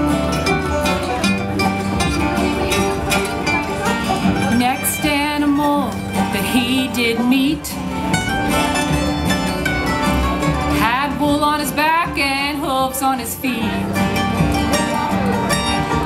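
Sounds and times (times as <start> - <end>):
acoustic guitars: 0.0 - 16.0
mandolin: 0.0 - 16.0
upright bass: 0.0 - 16.0.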